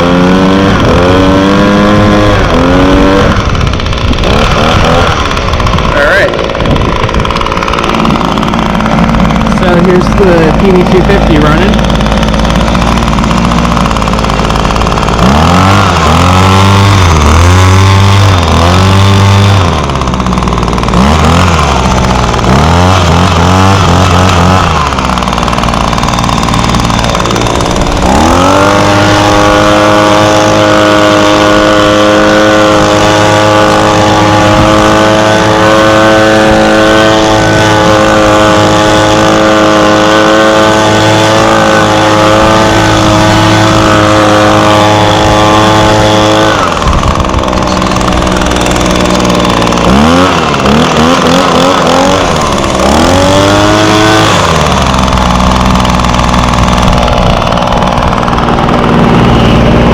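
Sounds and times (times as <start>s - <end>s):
leaf blower engine revving: 0.0s - 59.9s.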